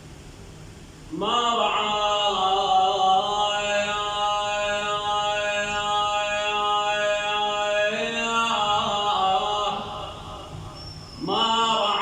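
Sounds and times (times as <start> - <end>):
man chanting: 1.1 - 10.5, 11.2 - 12.0.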